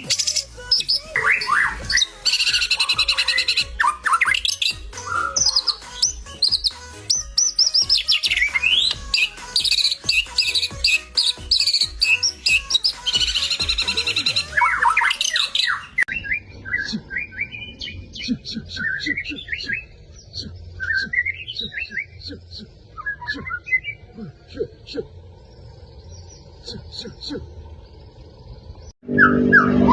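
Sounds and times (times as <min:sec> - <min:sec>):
songbird singing whistles and trills: 0:00.0 - 0:24.1.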